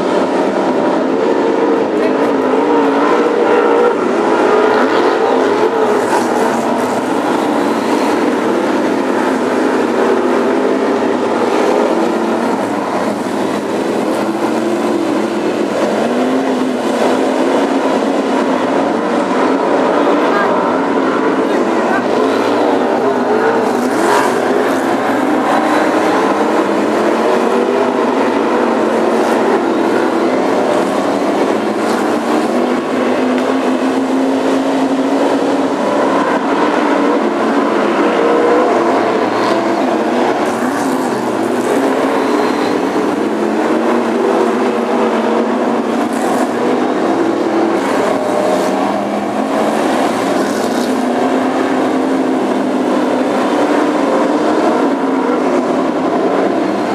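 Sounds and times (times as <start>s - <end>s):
racing car engines droning: 0.0s - 56.9s.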